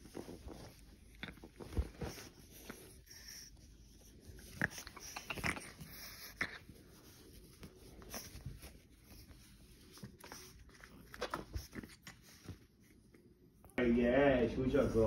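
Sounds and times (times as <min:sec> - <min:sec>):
clicks and rustles of dog handled: 0:00.0 - 0:13.8.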